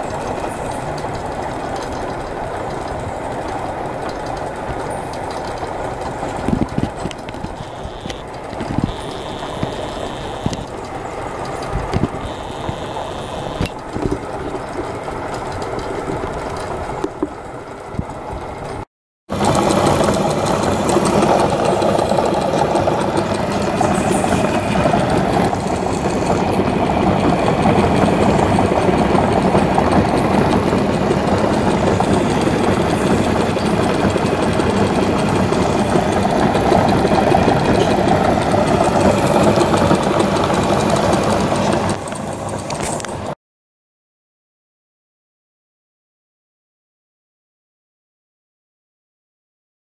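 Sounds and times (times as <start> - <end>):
engine rig mechanical rattle: 0.0 - 43.4.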